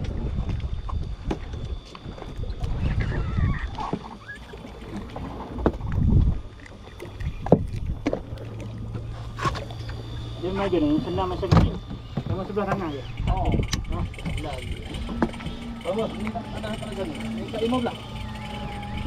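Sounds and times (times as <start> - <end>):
knocks and clunks on boat: 0.0 - 9.9, 11.0 - 18.0
wind rumbling on microphone: 0.0 - 17.2
low steady hum: 0.0 - 19.0.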